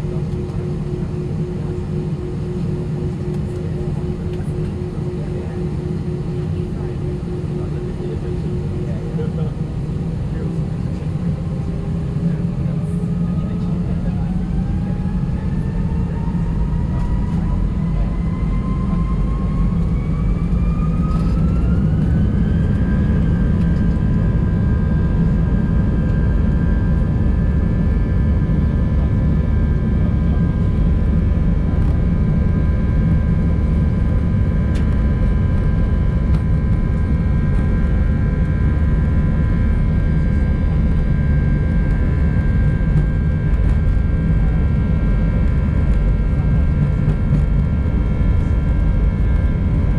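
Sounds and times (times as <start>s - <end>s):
jet engine rumble: 0.0s - 49.9s
jet engine whine: 0.0s - 49.9s.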